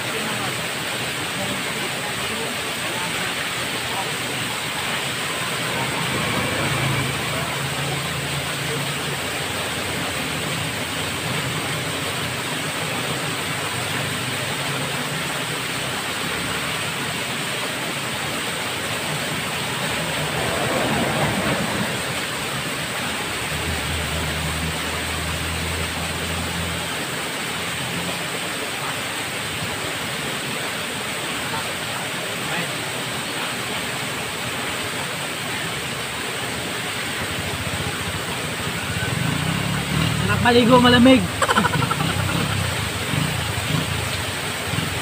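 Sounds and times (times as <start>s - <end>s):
waterfall rushing over rocks: 0.0s - 45.0s.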